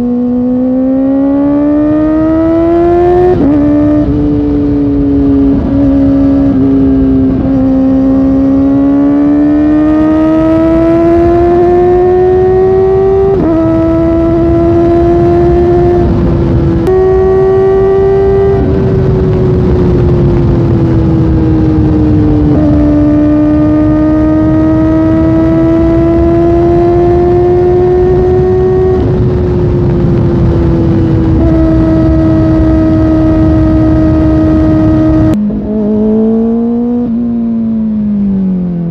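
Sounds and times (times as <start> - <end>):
motorcycle engine revving: 0.0 - 38.9
wind rush: 1.2 - 37.2.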